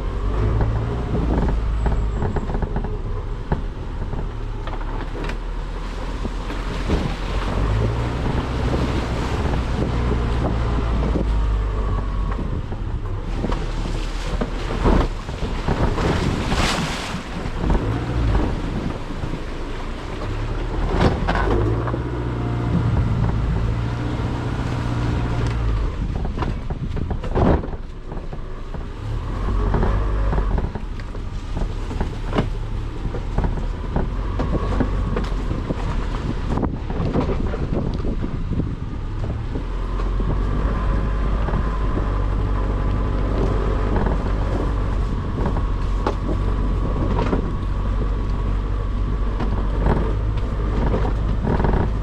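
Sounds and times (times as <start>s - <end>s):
car engine running: 0.0s - 52.0s
road and tyre noise: 0.0s - 52.0s
wind buffeting microphone: 0.0s - 52.0s.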